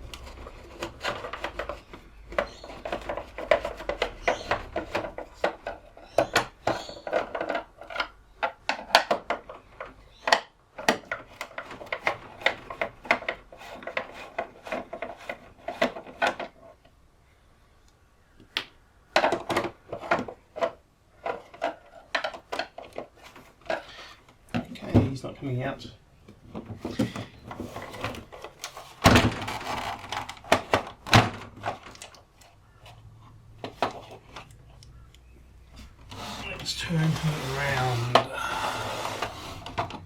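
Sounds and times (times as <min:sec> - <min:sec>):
plastic case clicks and scraping: 0:00.0 - 0:16.9, 0:18.5 - 0:25.2, 0:26.3 - 0:40.0.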